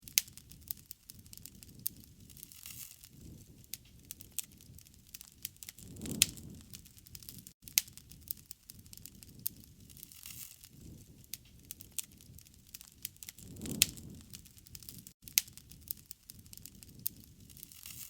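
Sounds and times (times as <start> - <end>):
campfire crackling: 0.0 - 18.0
low rush of flames: 0.2 - 18.0.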